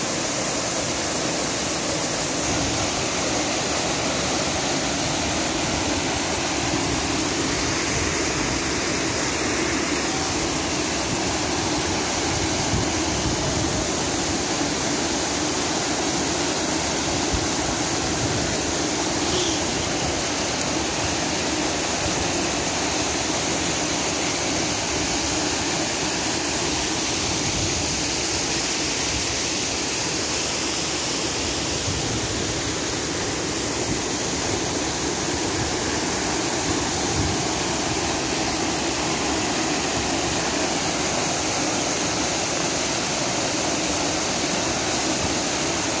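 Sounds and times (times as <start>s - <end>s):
waterfall rushing into pool: 0.0s - 46.0s.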